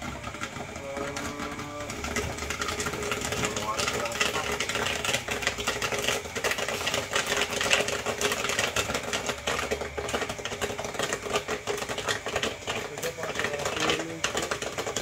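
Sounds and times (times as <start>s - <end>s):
popcorn popping in a pot: 0.0s - 15.0s
stirrer motor humming: 0.0s - 15.0s.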